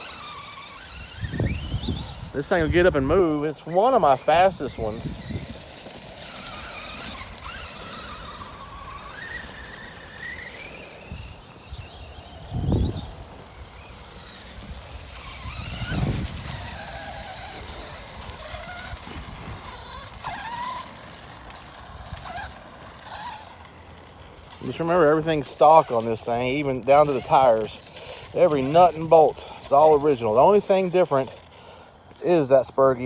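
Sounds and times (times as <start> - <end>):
rc truck motor whine: 0.0 - 33.0
tyres rustling: 0.0 - 33.0.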